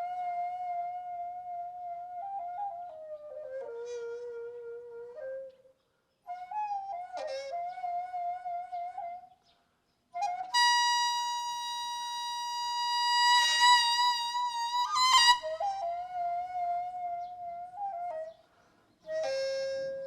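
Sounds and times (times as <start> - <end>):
solo wind instrument melody: 0.0 - 5.6, 6.3 - 9.4, 10.2 - 18.4, 19.0 - 20.0.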